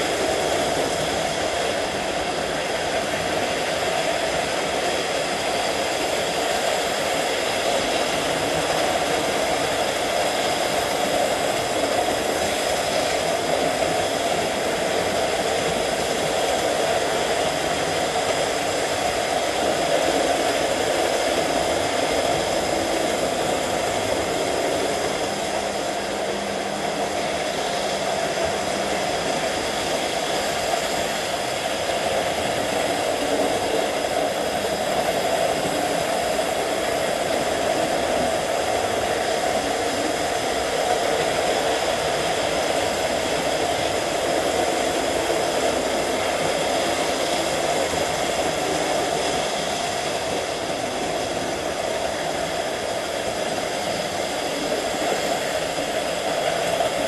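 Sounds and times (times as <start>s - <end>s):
model train motors whirring: 0.0s - 57.0s
wheels rumbling on rails: 0.0s - 57.0s.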